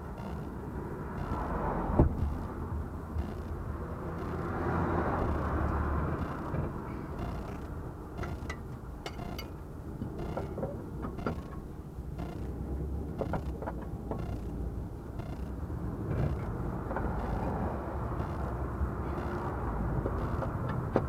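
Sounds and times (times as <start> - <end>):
car suspension creaking and clicking: 0.0 - 21.0
low rumble of moving car: 0.0 - 21.0.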